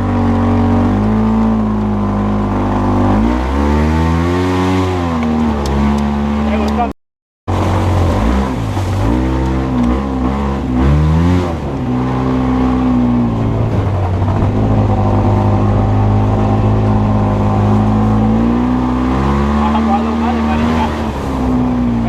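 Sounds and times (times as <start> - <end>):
off-road vehicle engine revving: 0.0 - 6.9, 7.5 - 22.0.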